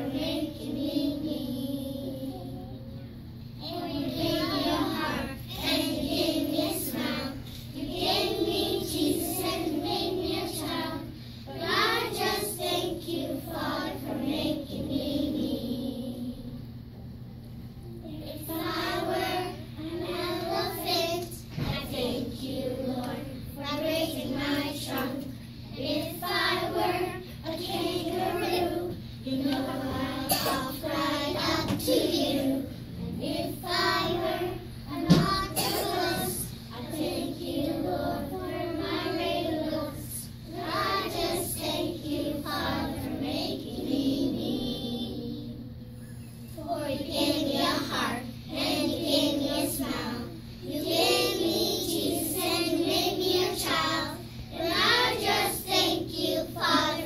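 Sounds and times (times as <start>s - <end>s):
children singing together: 0.0s - 2.8s, 3.6s - 16.5s, 18.3s - 45.8s, 46.5s - 57.0s.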